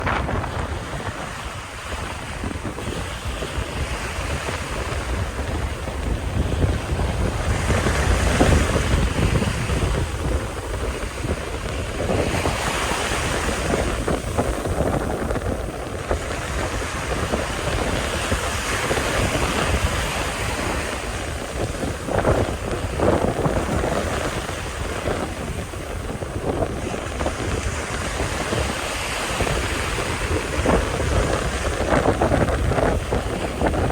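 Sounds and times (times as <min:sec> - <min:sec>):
sea waves washing ashore: 0:00.0 - 0:33.9
wind buffeting microphone: 0:00.0 - 0:33.9.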